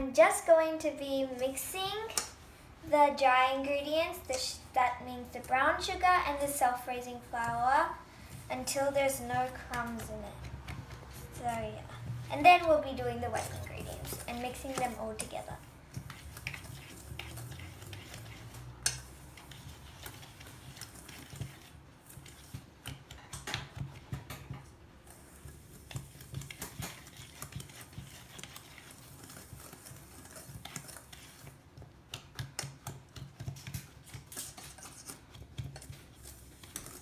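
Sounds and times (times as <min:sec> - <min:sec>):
wire whisk stirring in metal bowl: 0:07.0 - 0:37.0.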